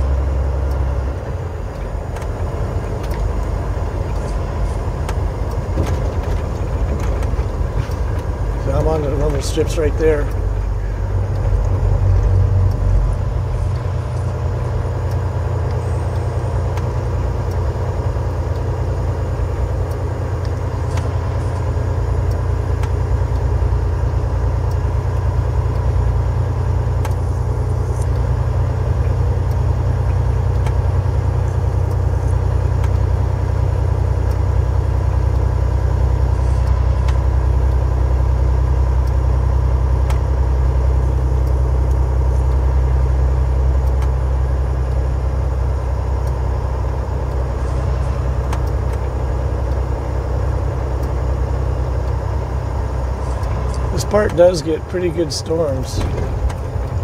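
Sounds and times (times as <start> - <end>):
truck engine running: 0.0 - 57.0
tyres on snowy road: 0.0 - 57.0.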